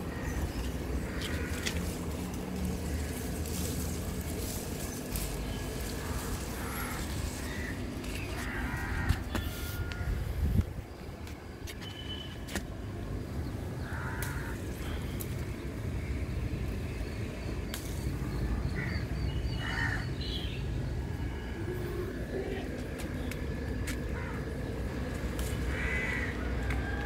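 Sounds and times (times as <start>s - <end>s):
steady low rumble: 0.0s - 11.7s, 12.6s - 27.0s.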